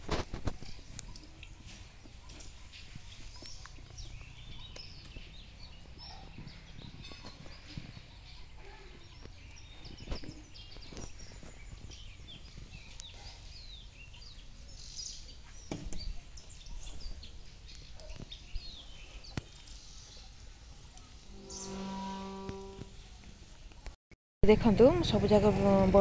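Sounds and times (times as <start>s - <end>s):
small birds chirping: 0.0s - 24.0s
outdoor background noise: 0.0s - 26.0s.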